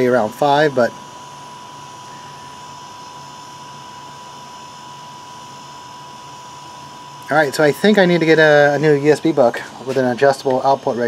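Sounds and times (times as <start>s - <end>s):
cooling fans whirring: 0.0s - 11.0s
high-pitched whine: 0.0s - 11.0s.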